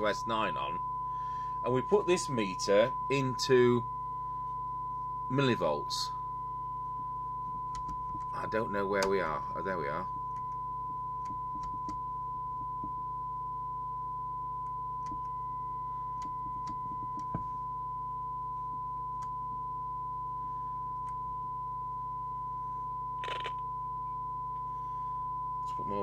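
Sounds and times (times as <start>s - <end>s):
low mains hum: 0.0s - 26.0s
steady test tone: 0.0s - 26.0s.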